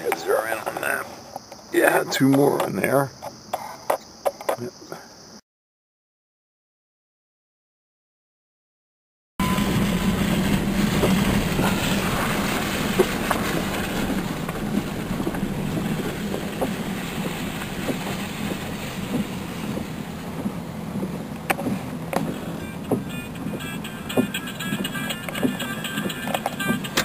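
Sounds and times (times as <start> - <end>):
vehicle mechanical rumble: 0.0 - 4.7, 9.4 - 27.0.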